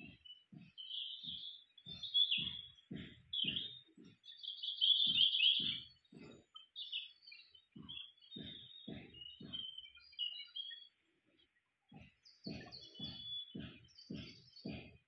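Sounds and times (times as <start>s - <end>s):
small birds chirping: 0.0s - 15.0s
soft low thumps: 0.0s - 15.0s.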